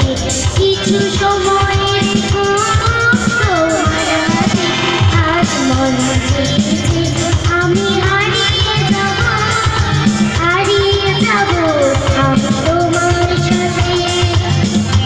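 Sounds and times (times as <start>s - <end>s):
electric guitar: 0.0s - 15.0s
girl singing into microphone: 0.0s - 15.0s
steady percussion beat: 0.0s - 15.0s.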